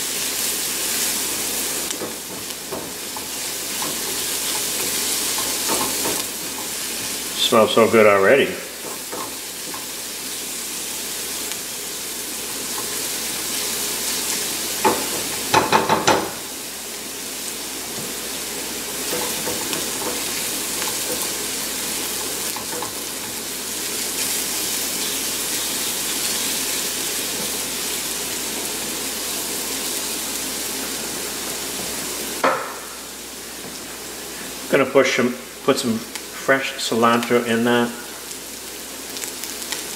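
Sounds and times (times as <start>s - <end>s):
onion sizzling in oil: 0.0s - 39.9s.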